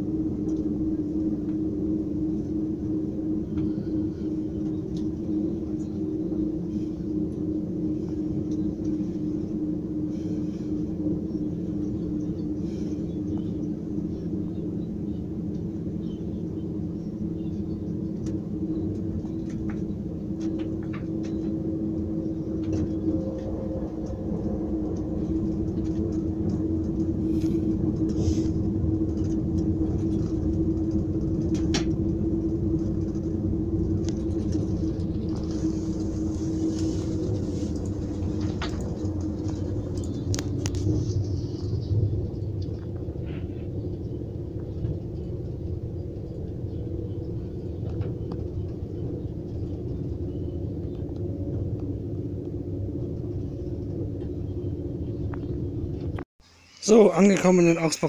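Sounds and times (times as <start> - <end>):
train rumble: 0.0 - 56.2
held hum: 0.0 - 56.3.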